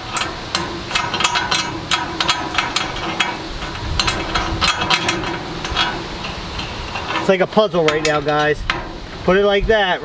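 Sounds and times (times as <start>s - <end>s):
bolt and nut clicking on metal: 0.1s - 9.0s.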